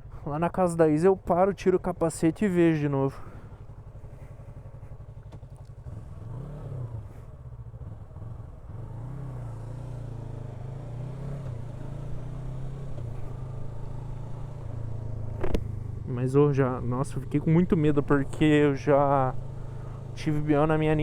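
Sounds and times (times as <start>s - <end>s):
motorcycle engine revving: 3.2s - 21.0s.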